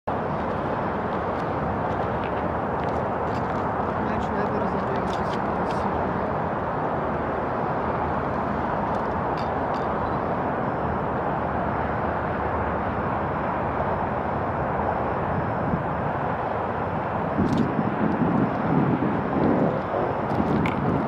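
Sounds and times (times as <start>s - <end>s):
outdoor rushing noise: 0.1s - 21.0s.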